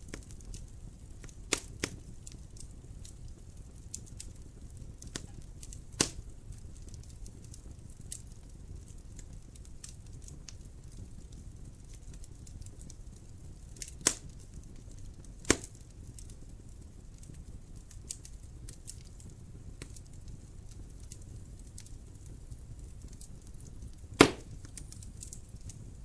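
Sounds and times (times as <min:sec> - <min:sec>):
sharp pops of burning wood: 0:00.0 - 0:26.0
wood fire crackling: 0:00.0 - 0:26.0.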